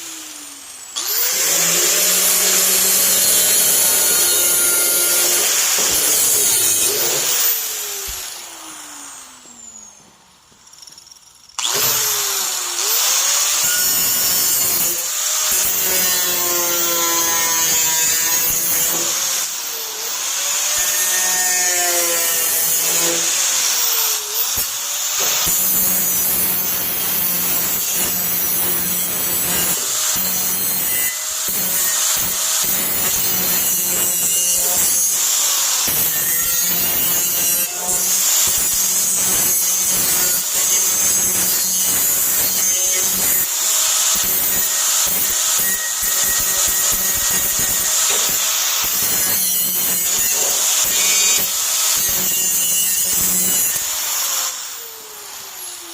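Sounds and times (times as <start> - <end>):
power tool abrasive hiss: 0.0 - 55.9.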